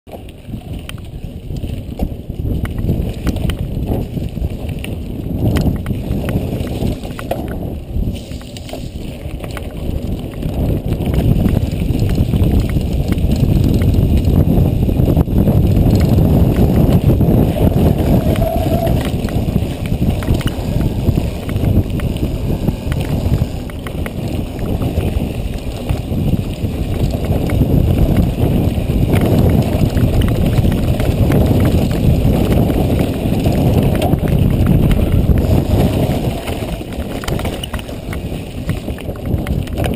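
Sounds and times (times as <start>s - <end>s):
bike rattling over bumps: 0.1s - 39.9s
tyres crunching over stones: 0.1s - 39.9s
wind rumble on microphone: 0.1s - 39.9s.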